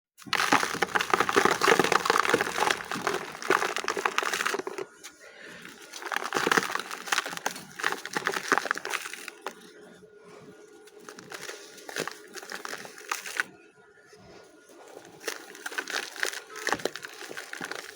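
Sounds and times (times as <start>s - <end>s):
dry clay crunching: 0.2s - 13.6s, 14.2s - 17.9s.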